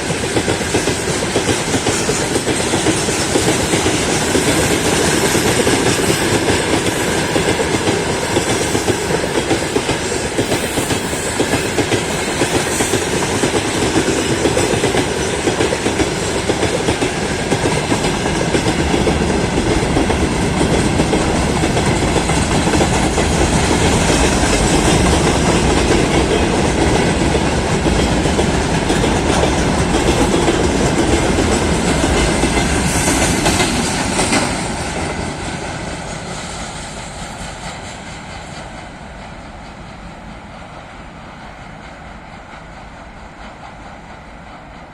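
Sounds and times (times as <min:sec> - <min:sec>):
train wheels clattering over rail joints: 0:00.0 - 0:44.9.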